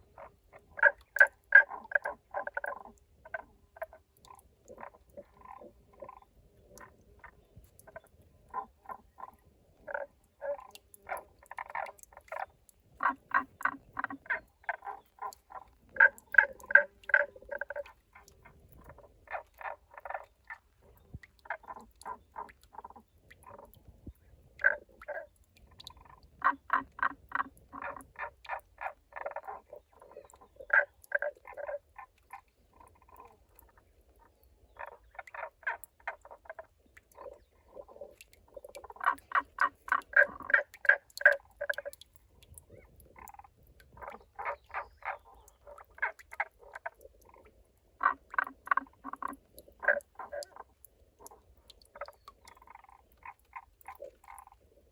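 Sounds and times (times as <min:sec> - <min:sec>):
frogs calling: 0:00.0 - 0:23.8, 0:24.4 - 0:54.6.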